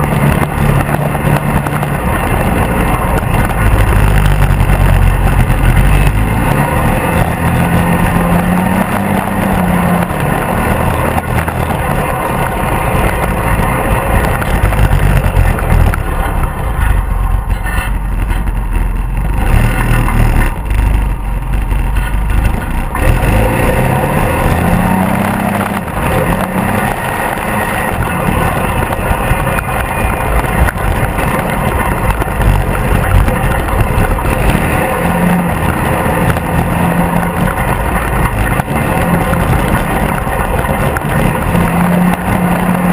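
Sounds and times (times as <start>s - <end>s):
engine accelerating: 0.0s - 42.9s
wind: 0.0s - 42.9s.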